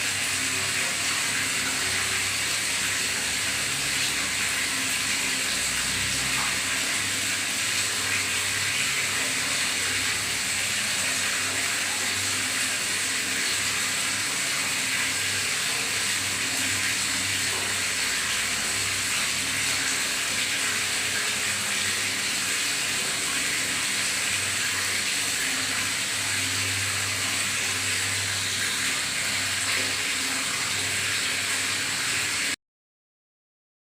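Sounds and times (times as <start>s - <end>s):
water running into bathtub: 0.0s - 32.6s.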